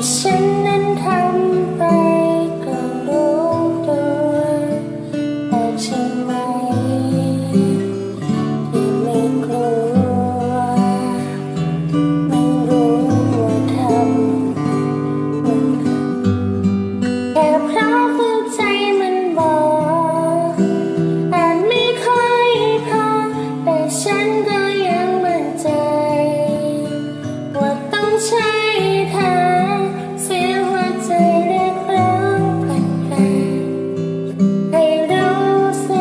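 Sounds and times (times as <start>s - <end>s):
acoustic guitar: 0.0s - 36.0s
woman singing pop ballad: 0.0s - 36.0s.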